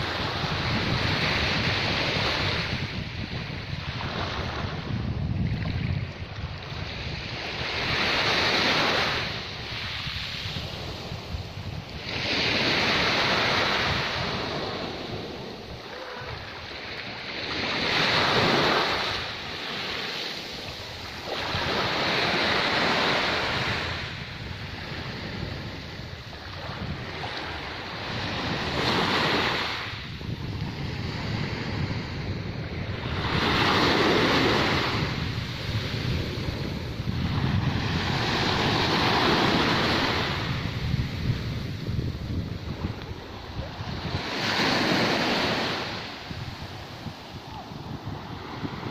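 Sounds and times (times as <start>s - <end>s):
small waves washing on shore: 0.0s - 48.9s.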